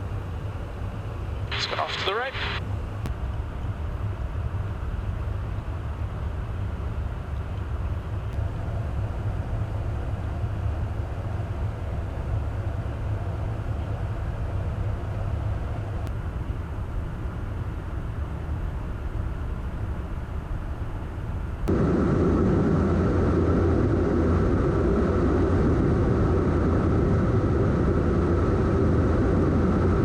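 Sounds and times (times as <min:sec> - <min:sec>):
aircraft engine rumble in flight: 0:00.0 - 0:30.0.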